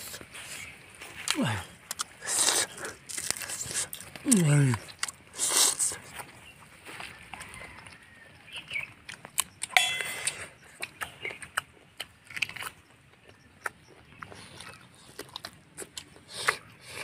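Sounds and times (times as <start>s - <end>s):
people chewing and smacking: 0.0s - 17.0s.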